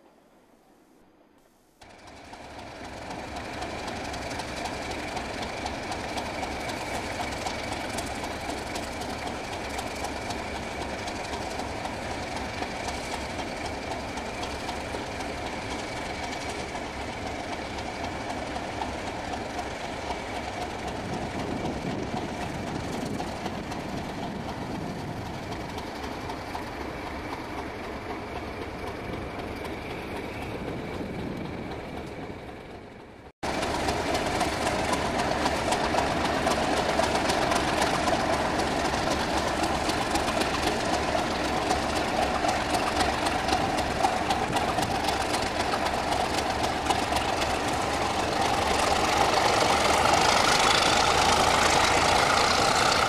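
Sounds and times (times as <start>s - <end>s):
train coaches rolling past: 0.0s - 53.0s
wheels clicking over rail joints: 1.8s - 53.0s.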